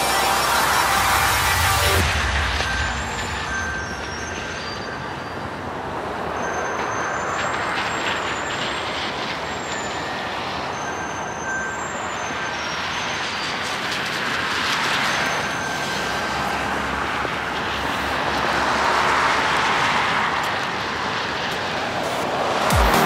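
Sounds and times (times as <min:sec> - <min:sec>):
tyres hissing on wet road: 0:00.0 - 0:23.0.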